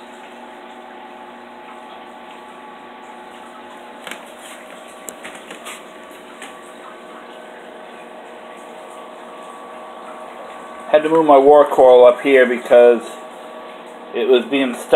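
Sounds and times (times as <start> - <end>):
aquarium pump hum and water: 0.0 - 14.9.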